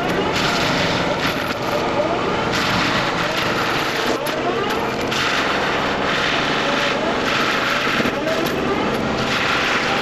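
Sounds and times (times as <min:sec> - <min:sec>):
forestry mulcher grinding brush: 0:00.0 - 0:10.0.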